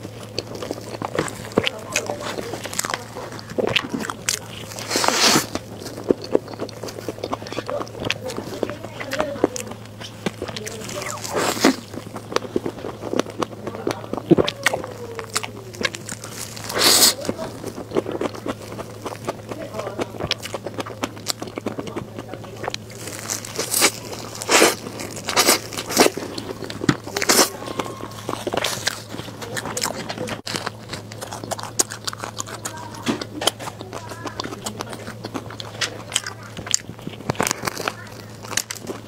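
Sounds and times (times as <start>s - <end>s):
crisp crunches: 0.0s - 39.0s
faint low hum: 0.0s - 39.0s
wet chewing and mouth sounds: 0.0s - 39.0s.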